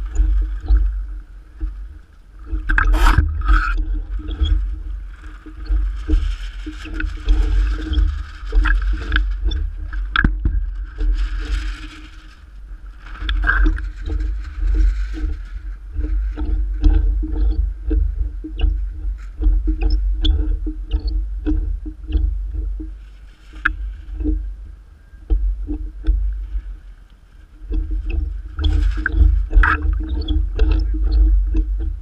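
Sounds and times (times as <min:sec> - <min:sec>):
wind buffeting microphone: 0:00.0 - 0:23.0, 0:27.5 - 0:32.0
choppy water slapping: 0:00.0 - 0:32.0.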